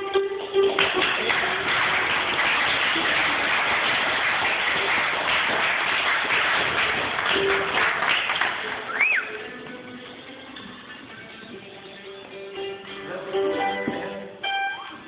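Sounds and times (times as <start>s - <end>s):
bluegrass band playing: 0.0s - 5.2s, 6.6s - 8.1s, 8.7s - 15.0s.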